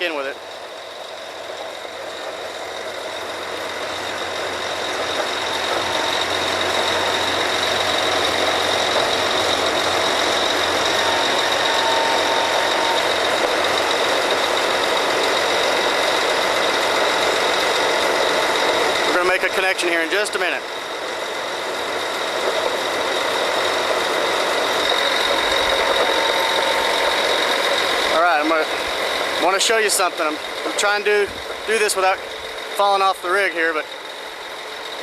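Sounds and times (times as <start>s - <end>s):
drilling rig machinery din: 0.0s - 35.0s
high mechanical whine: 0.0s - 35.0s.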